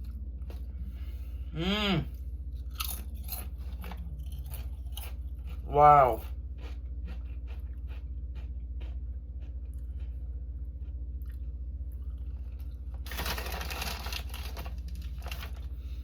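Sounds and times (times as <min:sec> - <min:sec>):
low electrical hum: 0:00.0 - 0:16.0
potato chips being chewed: 0:02.2 - 0:15.8.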